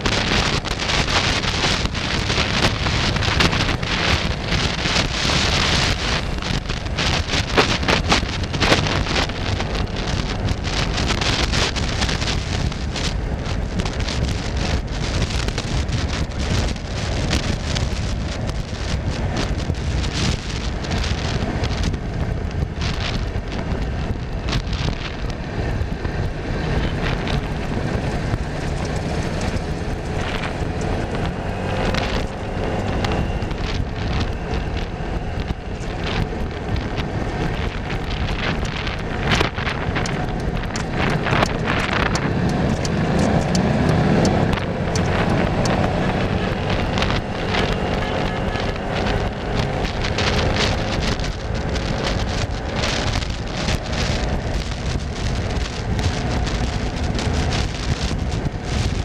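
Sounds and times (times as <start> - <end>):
crackles: 0.0 - 59.0
vehicle and road noise: 0.0 - 59.0
wind buffeting microphone: 0.0 - 59.0.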